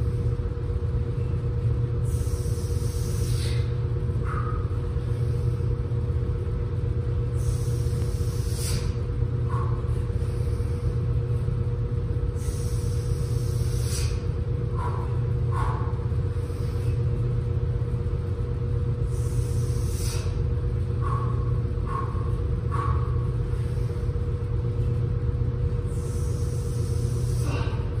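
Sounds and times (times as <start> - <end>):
constant hum: 0.0 - 28.0
low background rumble: 0.0 - 28.0.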